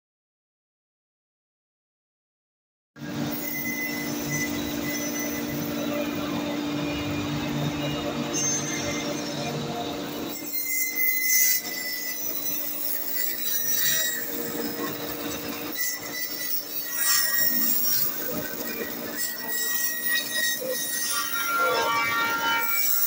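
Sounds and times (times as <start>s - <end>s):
bandsaw cutting wood: 3.0s - 23.0s.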